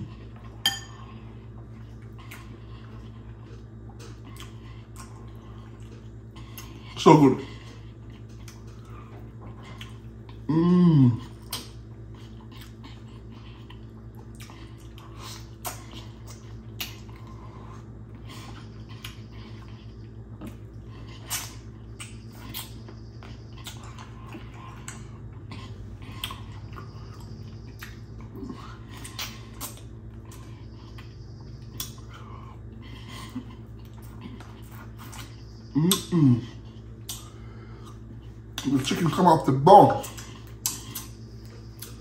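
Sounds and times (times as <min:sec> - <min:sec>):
steady low hum: 0:00.0 - 0:42.0
wet chewing and mouth smacks: 0:01.4 - 0:10.5, 0:11.2 - 0:39.0, 0:40.0 - 0:42.0.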